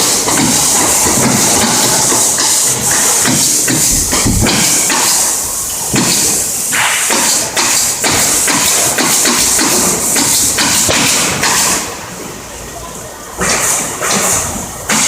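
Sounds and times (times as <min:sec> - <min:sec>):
steady high air hiss: 0:00.0 - 0:15.0.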